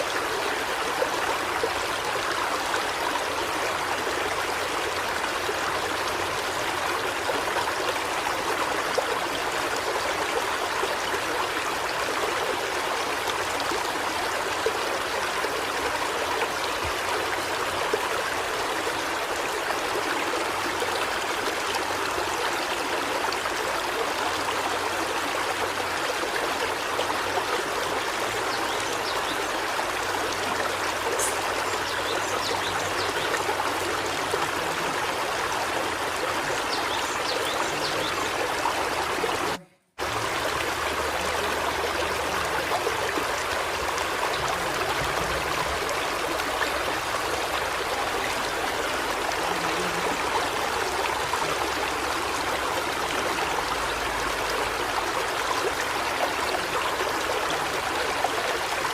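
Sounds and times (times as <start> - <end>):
running water: 0.0 - 58.9.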